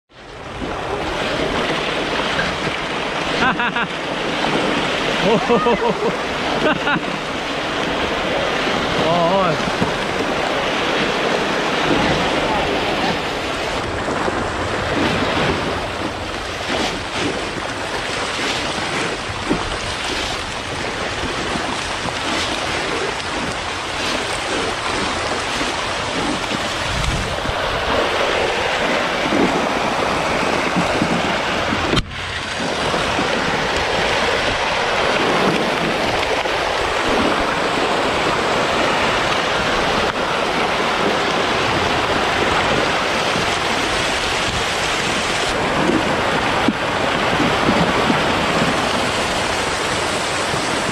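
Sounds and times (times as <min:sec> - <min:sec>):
fish thrashing and splashing: 0:00.2 - 0:50.9.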